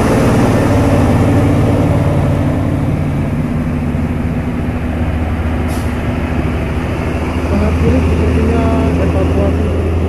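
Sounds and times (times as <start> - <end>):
diesel truck engine passing: 0.0 - 10.0.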